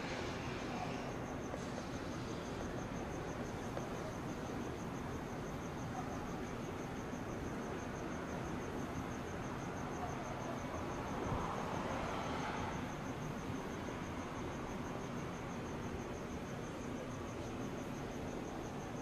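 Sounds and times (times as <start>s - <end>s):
background hiss: 0.0s - 19.0s
cricket chirping: 0.0s - 19.0s.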